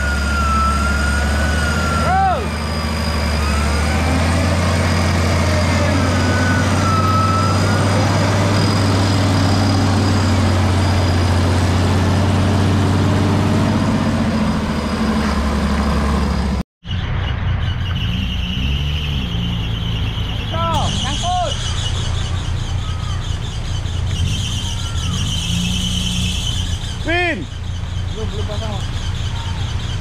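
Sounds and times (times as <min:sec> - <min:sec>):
engine running at low revs: 0:00.0 - 0:30.0.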